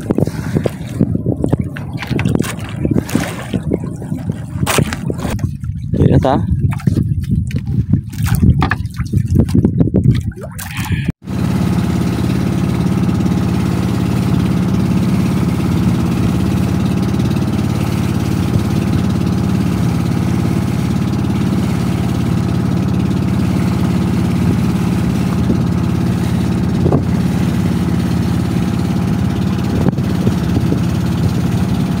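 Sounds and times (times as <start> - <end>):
boat engine idling: 0.0 - 6.4, 10.7 - 32.0.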